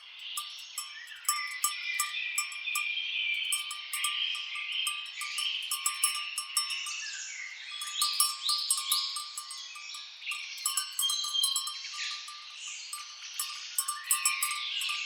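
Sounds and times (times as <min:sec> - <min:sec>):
birds calling and singing: 0:00.0 - 0:15.0.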